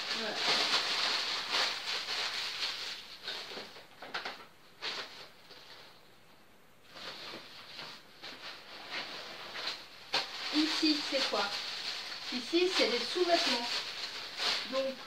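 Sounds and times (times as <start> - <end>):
plastic bag crinkling: 0.0 - 6.0, 6.9 - 15.0.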